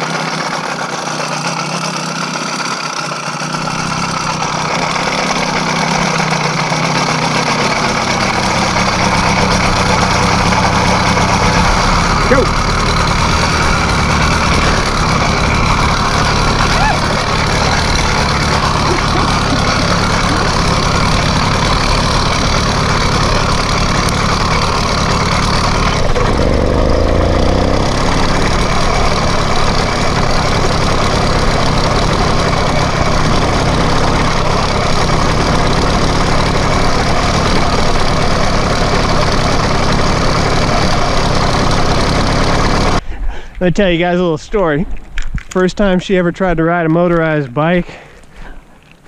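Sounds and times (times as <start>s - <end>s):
two-stroke engine running: 0.0s - 48.7s.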